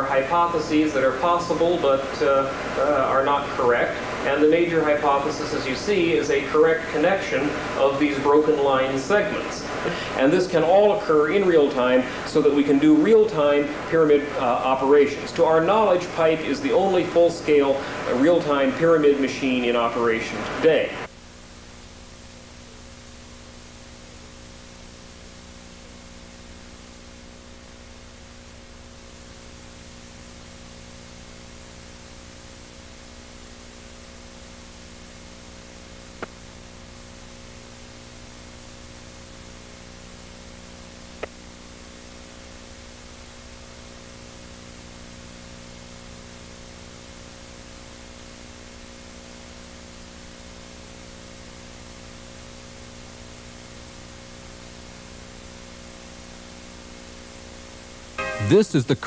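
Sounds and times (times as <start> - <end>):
low mains hum: 0.0 - 59.0
tape hiss: 0.0 - 59.0.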